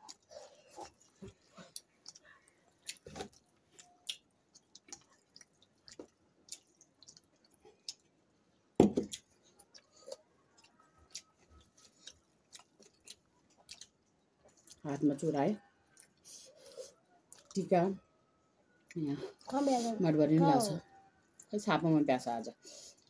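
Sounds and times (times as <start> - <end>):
people chewing food: 0.0 - 23.0.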